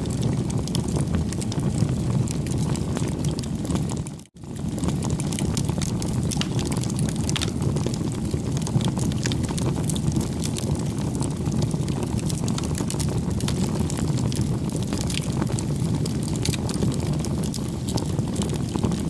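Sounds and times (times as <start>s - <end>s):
fire crackles and pops: 0.0s - 19.0s
wood fire rumbling: 0.0s - 19.0s.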